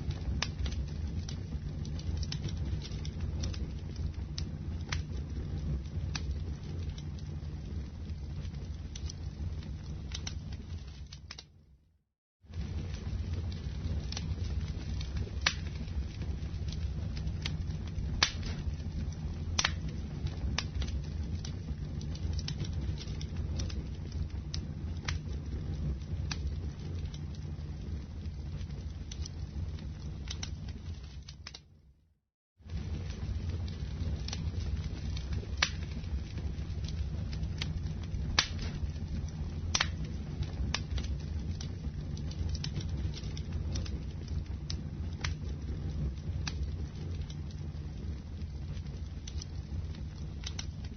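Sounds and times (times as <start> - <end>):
wood fire crackling and popping: 0.0 - 11.8, 12.5 - 32.0, 32.6 - 50.9
low rumble of flames: 0.0 - 50.9.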